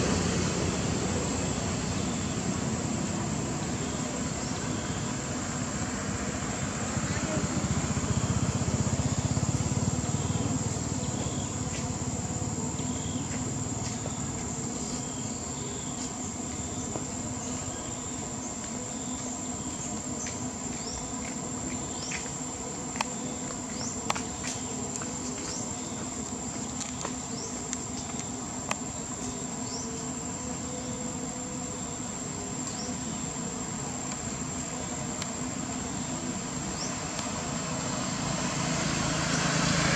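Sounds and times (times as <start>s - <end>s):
insects droning high tone: 0.0s - 39.9s.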